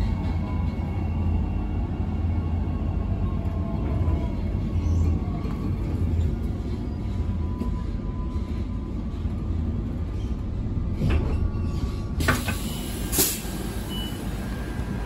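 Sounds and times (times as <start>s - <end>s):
electric train idling rumble: 0.0s - 15.0s.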